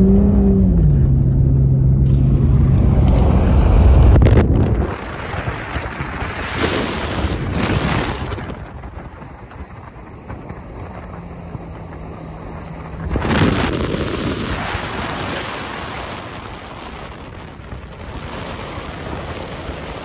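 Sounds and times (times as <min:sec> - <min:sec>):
truck engine drone: 0:00.0 - 0:20.0
wind rushing over microphone: 0:00.0 - 0:20.0.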